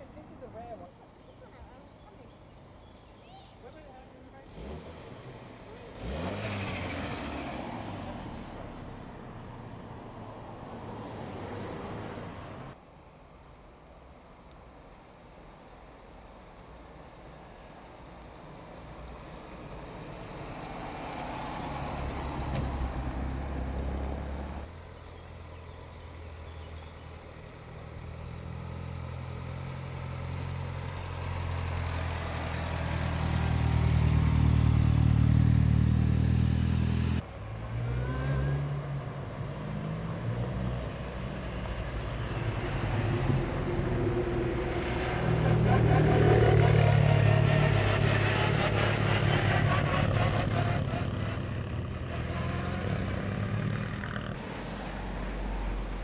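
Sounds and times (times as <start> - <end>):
cars driving slowly past: 0.0 - 56.0.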